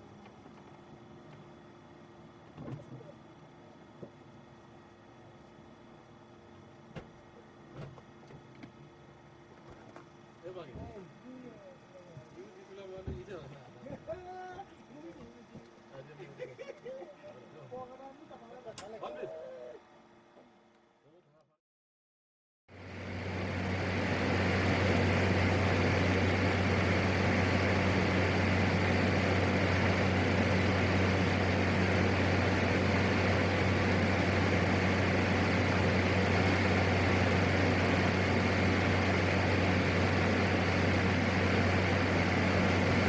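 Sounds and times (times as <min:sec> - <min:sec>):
airplane engine and propeller drone: 0:00.0 - 0:16.3, 0:22.7 - 0:43.0.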